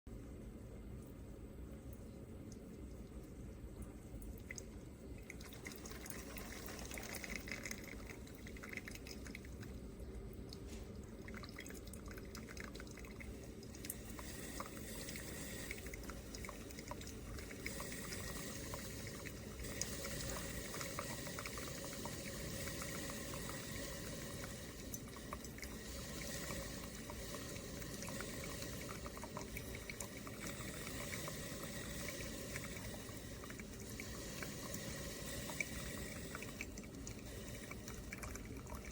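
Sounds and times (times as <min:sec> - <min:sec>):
small drips and clicks: 0:00.4 - 0:38.9
water pouring into container: 0:04.3 - 0:38.9.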